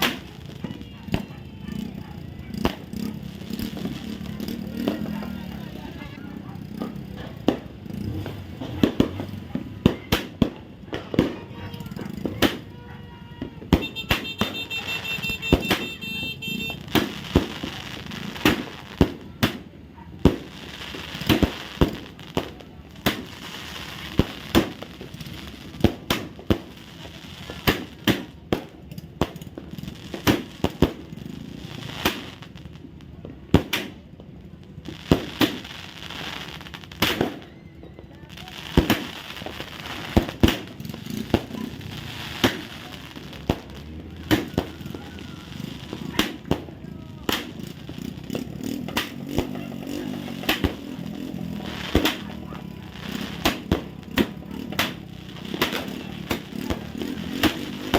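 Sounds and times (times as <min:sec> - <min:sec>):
firecrackers crackling: 0:00.0 - 0:57.9
fireworks sharp bangs: 0:00.0 - 0:57.9.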